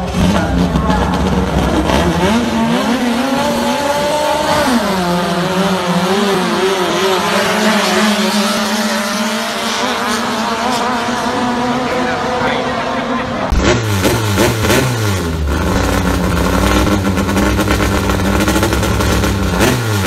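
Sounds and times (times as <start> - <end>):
boat engine at full throttle: 0.0 - 20.0.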